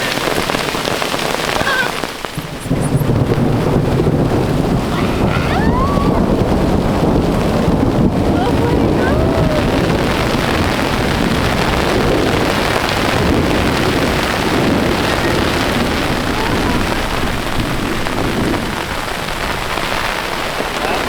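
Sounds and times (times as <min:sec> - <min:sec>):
hail and heavy rain pelting: 0:00.0 - 0:21.0.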